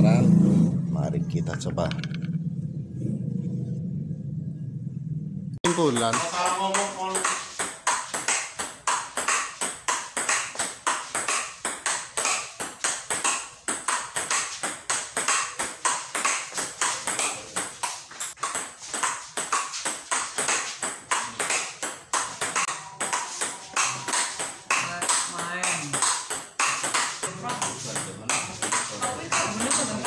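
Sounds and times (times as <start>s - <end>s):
ball bouncing on table: 1.9s - 2.4s, 5.7s - 30.0s
ball clicking off bats: 5.7s - 30.0s.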